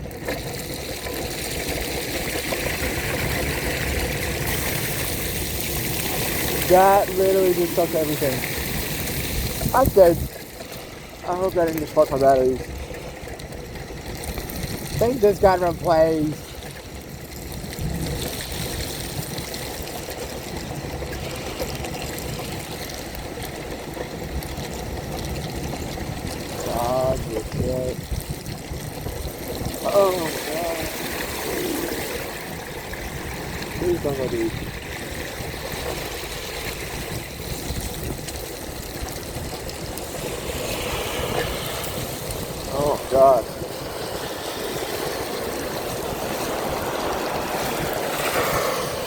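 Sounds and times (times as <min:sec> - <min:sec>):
wheelchair tyres rolling through water: 0:00.0 - 0:49.0.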